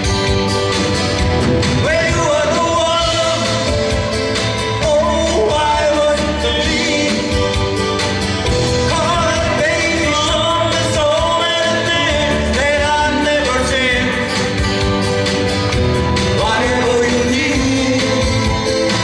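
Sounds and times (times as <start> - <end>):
acoustic and electric guitars: 0.0 - 19.0.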